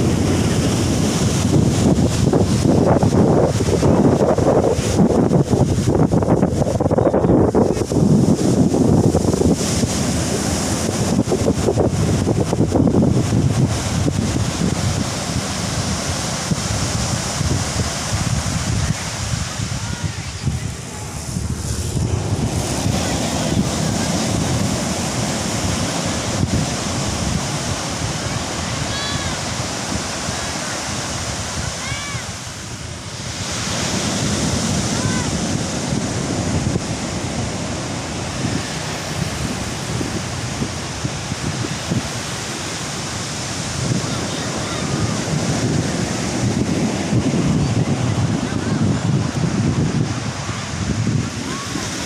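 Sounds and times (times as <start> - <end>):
ocean surf breaking on beach: 0.0 - 52.0
wind buffeting microphone: 0.0 - 52.0.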